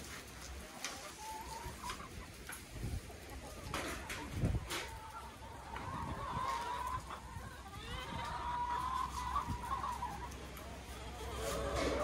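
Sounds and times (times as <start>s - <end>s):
hens clucking: 0.0s - 12.0s
drawn-out wavering hen calls: 0.9s - 2.3s, 3.4s - 12.0s.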